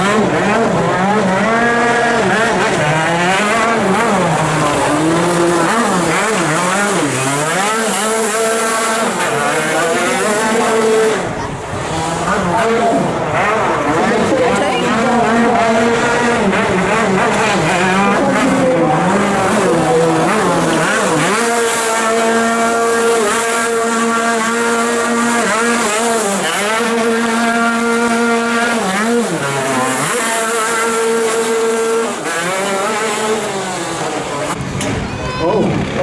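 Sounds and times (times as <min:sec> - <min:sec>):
car engine revving hard: 0:00.0 - 0:34.9.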